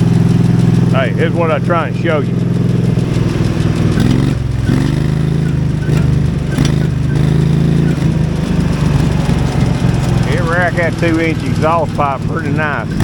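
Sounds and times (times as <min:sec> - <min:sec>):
tractor engine revving loudly: 0:00.0 - 0:13.0.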